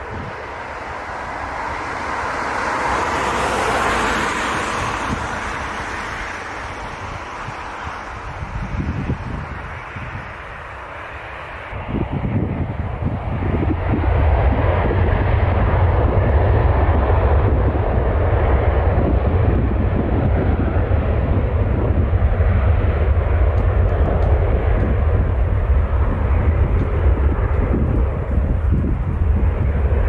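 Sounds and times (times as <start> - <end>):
jet airliner engines running: 0.0 - 30.0.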